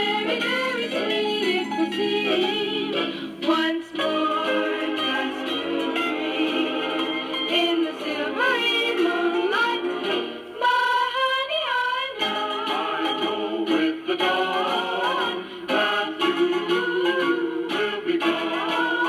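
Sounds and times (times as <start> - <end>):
song from small record player speaker: 0.0 - 19.0.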